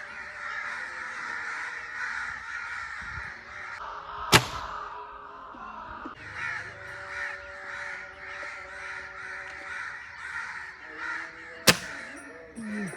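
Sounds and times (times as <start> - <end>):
crows cawing: 0.0 - 3.8, 6.2 - 12.9.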